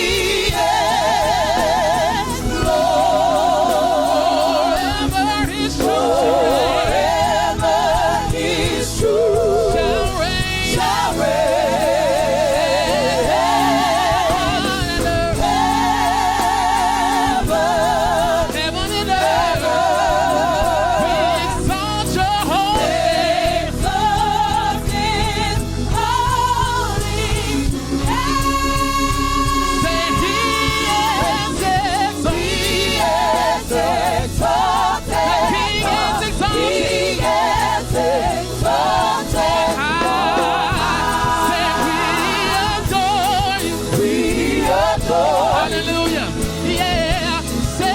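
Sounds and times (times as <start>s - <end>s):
gospel choir and soloist singing: 0.0s - 47.9s
live band playing: 0.0s - 47.9s.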